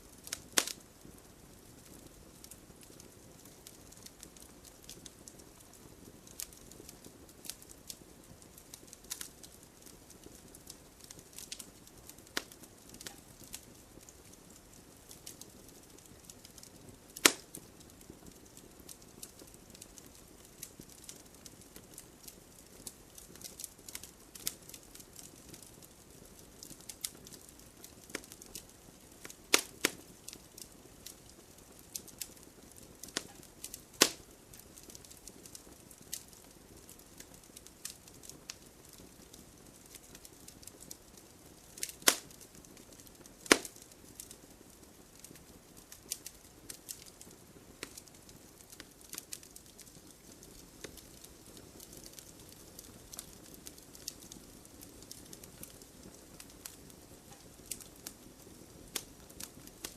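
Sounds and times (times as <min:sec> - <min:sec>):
campfire crackling and popping: 0:00.0 - 0:59.9
low steady hiss: 0:00.0 - 0:59.9.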